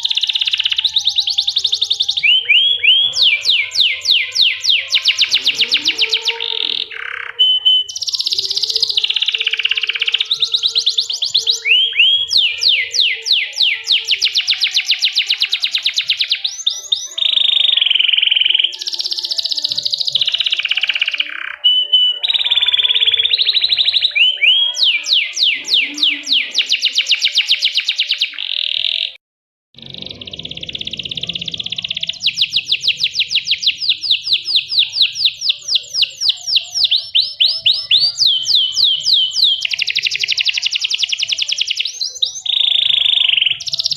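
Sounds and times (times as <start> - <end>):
canary singing trills: 0.0 - 29.2, 29.8 - 43.9.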